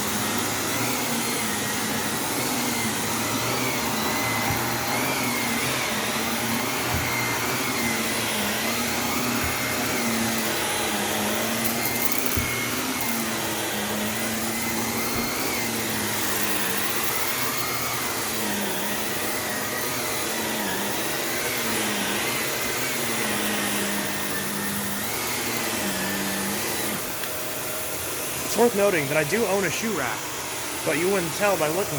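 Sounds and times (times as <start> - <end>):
upright vacuum running on carpet: 0.0 - 31.9.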